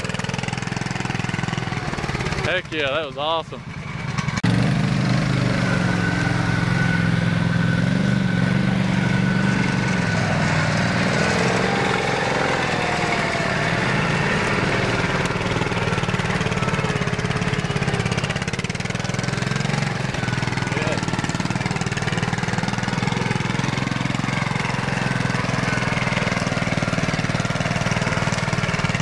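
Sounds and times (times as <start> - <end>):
garden tractor engine running: 0.0 - 29.0.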